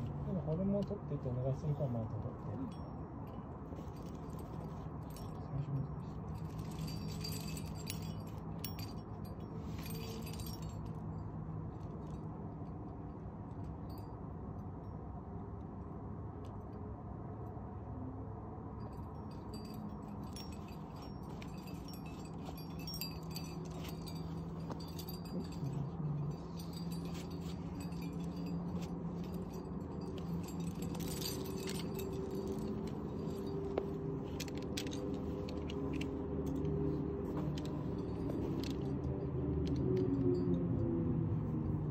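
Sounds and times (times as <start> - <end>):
steady low hum: 0.0 - 39.6
climbing gear clinking: 1.7 - 15.1, 18.8 - 41.0.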